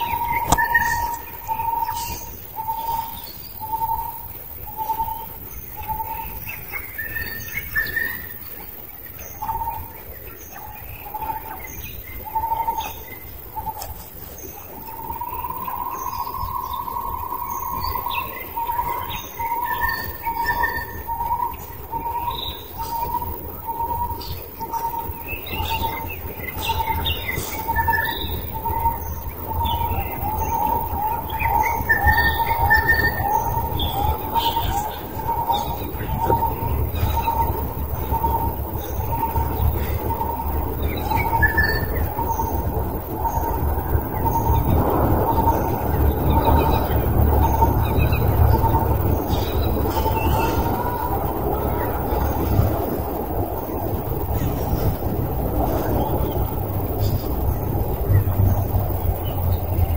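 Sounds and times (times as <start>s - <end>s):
birds chirping high: 0.0s - 59.9s.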